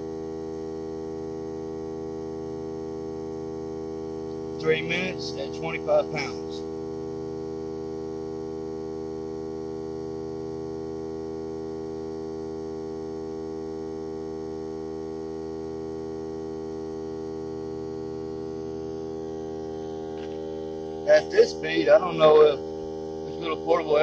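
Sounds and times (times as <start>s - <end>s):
air compressor humming: 0.0s - 24.0s.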